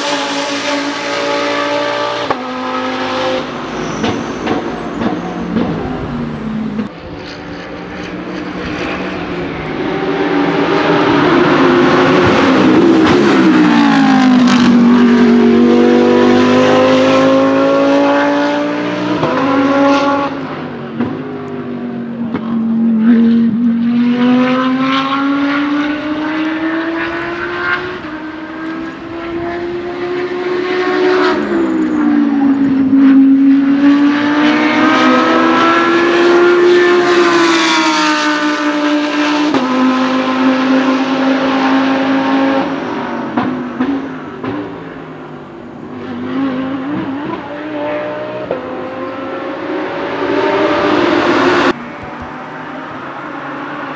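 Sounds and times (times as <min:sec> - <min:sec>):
race car engines passing: 0:00.0 - 0:53.9.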